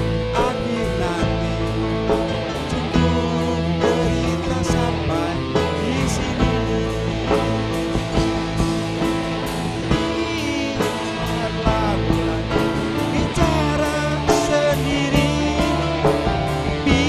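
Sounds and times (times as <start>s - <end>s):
drum kit: 0.0s - 17.0s
electronic keyboard: 0.0s - 17.0s
guitar: 0.0s - 17.0s.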